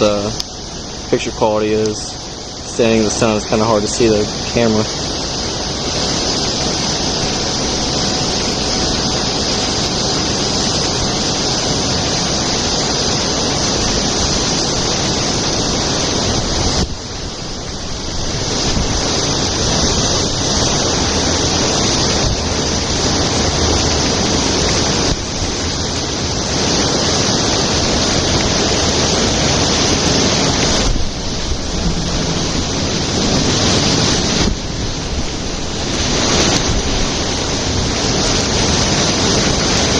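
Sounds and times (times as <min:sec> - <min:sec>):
whirlpool water rushing: 0:00.0 - 0:39.9.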